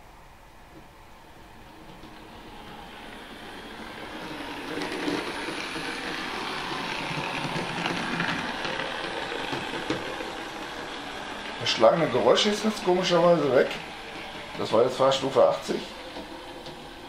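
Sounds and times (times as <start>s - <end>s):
model railcar rattling on track: 1.3s - 17.0s.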